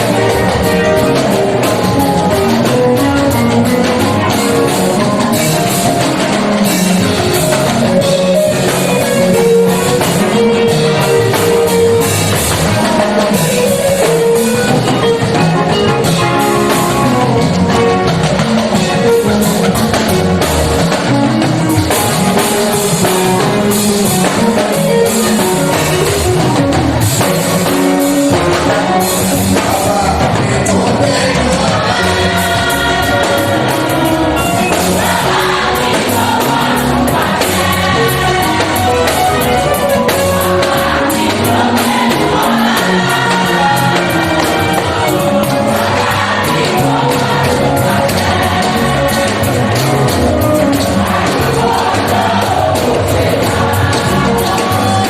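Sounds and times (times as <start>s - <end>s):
band accompaniment: 0.0s - 55.0s
choir singing gospel music: 0.0s - 55.0s
drum kit with cymbals: 0.0s - 55.0s
electric guitar: 0.0s - 55.0s
steady percussion beat: 0.0s - 55.0s.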